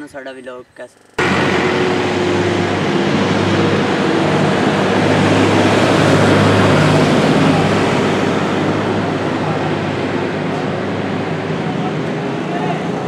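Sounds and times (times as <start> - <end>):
street noise hiss: 0.0 - 13.0
engine running steadily: 1.0 - 13.0.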